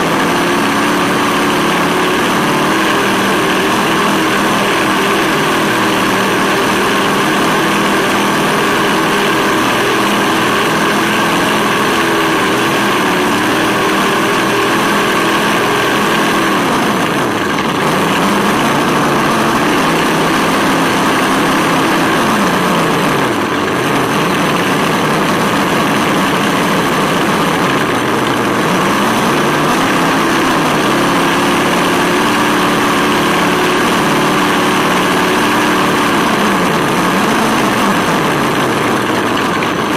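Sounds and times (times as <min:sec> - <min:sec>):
simulated engine revving: 0:00.0 - 0:39.9
tyres rushing on asphalt: 0:00.0 - 0:39.9.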